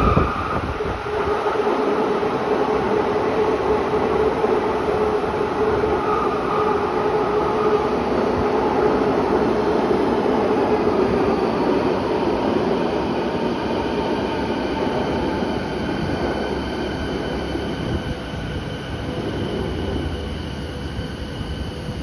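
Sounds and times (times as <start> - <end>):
electric train running noise: 0.0 - 22.0.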